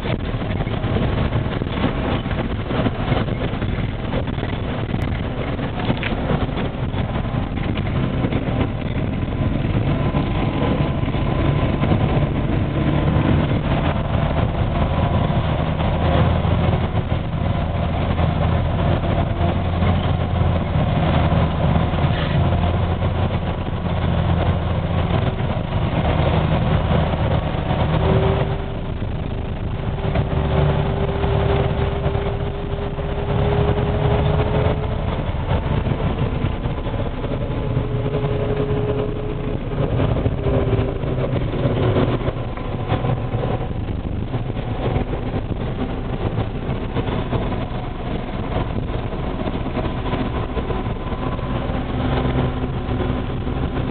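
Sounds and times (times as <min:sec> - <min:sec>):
snowcat engine running: 0:00.0 - 0:53.9.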